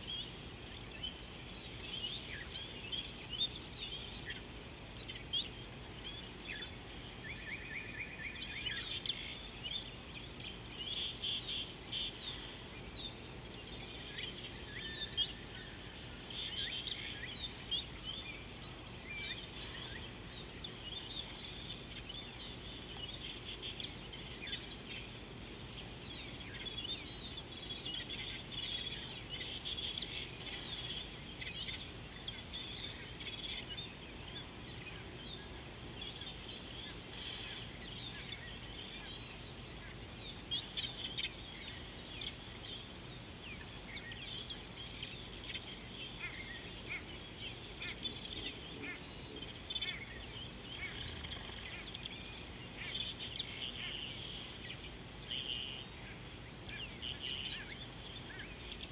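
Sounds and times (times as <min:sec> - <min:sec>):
birds chirping and calling: 0:00.0 - 0:58.9
low steady background hum: 0:00.0 - 0:58.9.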